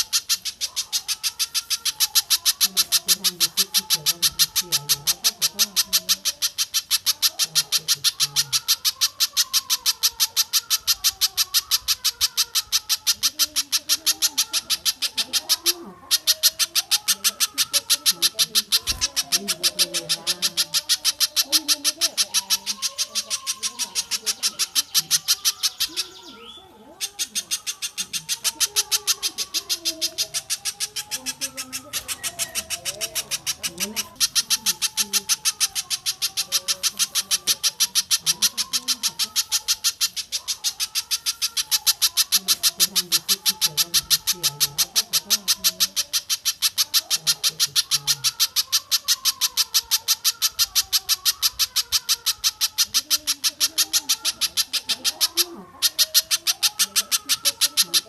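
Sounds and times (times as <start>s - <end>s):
lower wavering bird calls: 0.0s - 58.0s.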